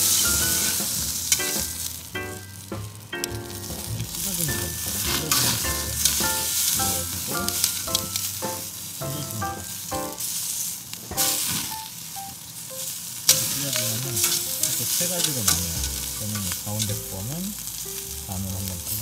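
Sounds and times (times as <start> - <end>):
light background music: 0.0 - 10.2, 11.1 - 19.0
steaks sizzling on a grill: 0.0 - 19.0.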